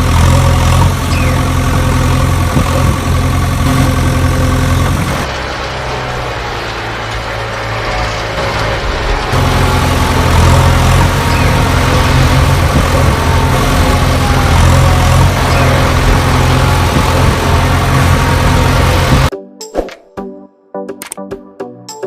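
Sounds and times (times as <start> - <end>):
diesel engine humming: 0.0 - 19.3.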